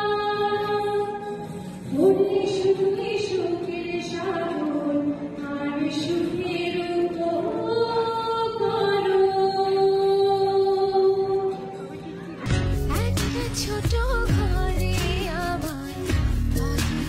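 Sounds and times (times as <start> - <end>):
woman singing slow melody: 0.0 - 11.8, 12.9 - 17.0.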